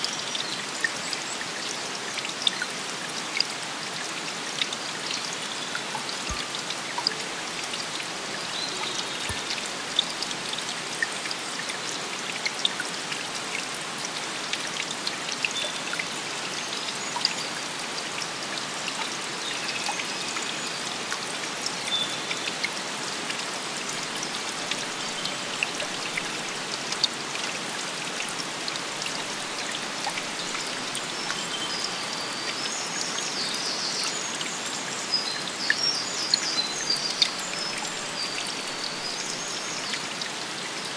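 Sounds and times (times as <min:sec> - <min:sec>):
trickling water: 0:00.0 - 0:40.9
water dripping: 0:00.1 - 0:40.9.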